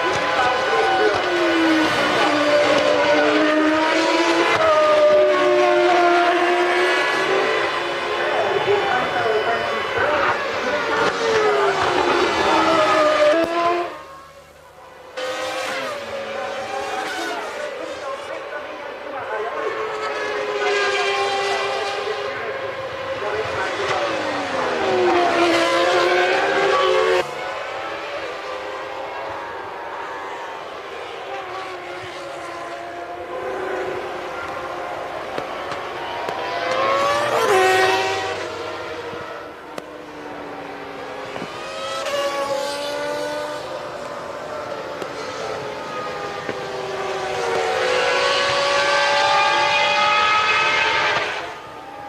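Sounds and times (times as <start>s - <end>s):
racing engines screaming: 0.0s - 52.0s.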